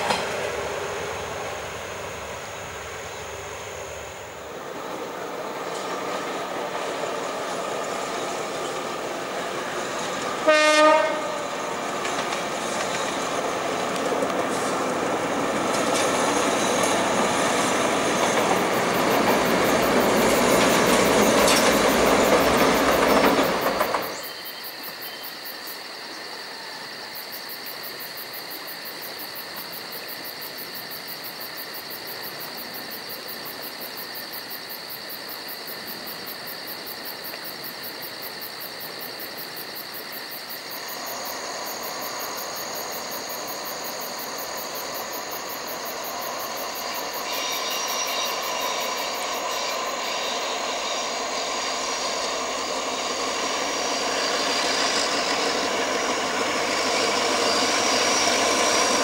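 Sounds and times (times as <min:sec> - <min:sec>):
diesel locomotive engine and wheel rumble: 0:00.0 - 0:24.6, 0:27.7 - 0:59.0.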